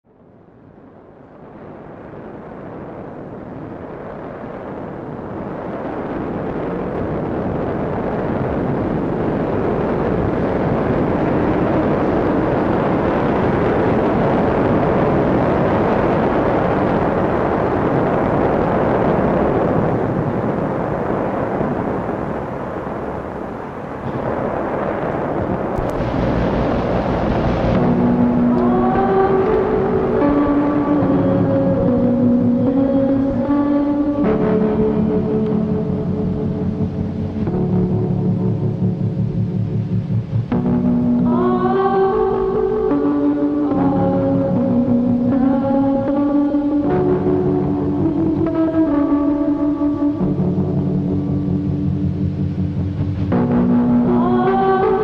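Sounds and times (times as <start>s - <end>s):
rumbling ambient drone: 0.1s - 55.0s
sustained pitched notes: 7.8s - 55.0s.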